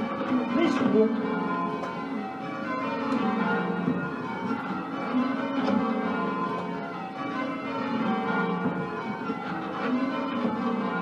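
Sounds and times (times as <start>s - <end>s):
church bells change ringing: 0.0s - 11.0s.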